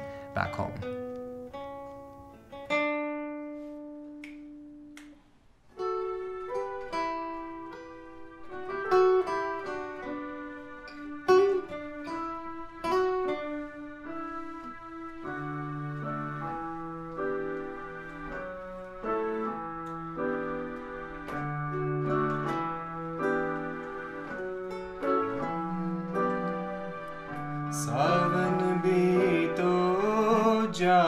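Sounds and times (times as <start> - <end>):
acoustic guitar picking melody: 0.0 - 31.0.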